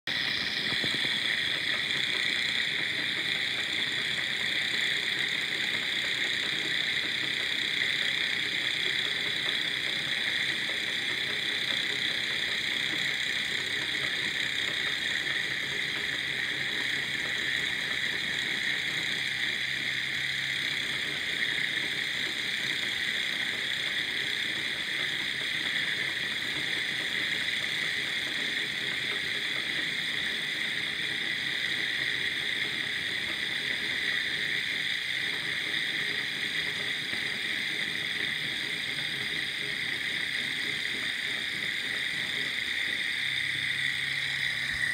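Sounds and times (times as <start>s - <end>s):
small engine whirring: 0.0s - 44.9s.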